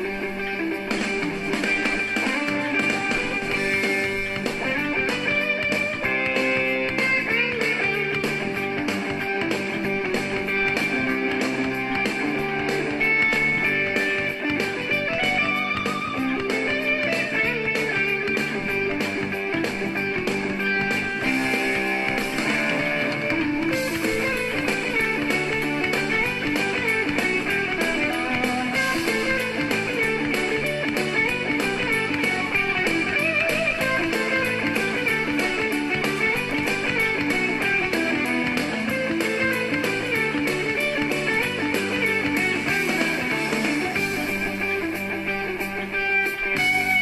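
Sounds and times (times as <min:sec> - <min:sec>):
guitar-driven rock music: 0:00.0 - 0:47.0.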